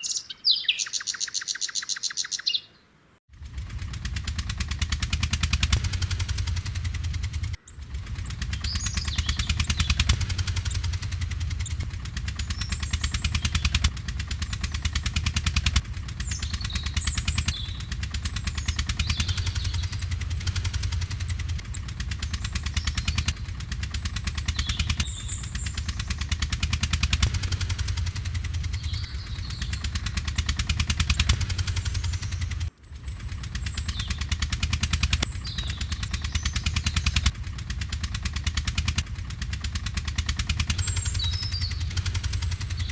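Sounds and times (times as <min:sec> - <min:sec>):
faint bird chirps: 0:00.0 - 0:03.0, 0:07.6 - 0:37.3, 0:40.5 - 0:42.9
toy tractor chugging: 0:03.3 - 0:42.9.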